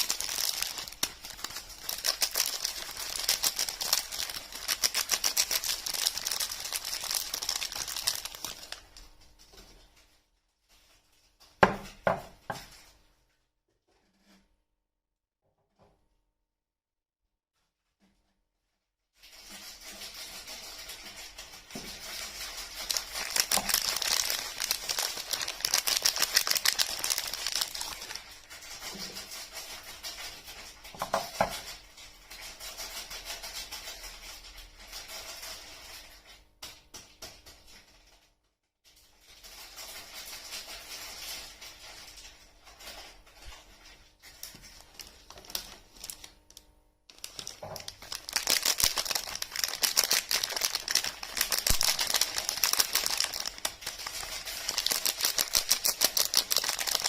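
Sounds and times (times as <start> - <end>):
packaging crinkling and rustling: 0.0 - 13.3, 19.2 - 36.4, 39.0 - 57.0.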